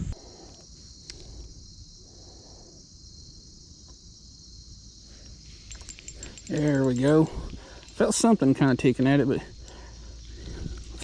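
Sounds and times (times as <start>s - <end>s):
insect chorus chirring: 0.0s - 11.0s.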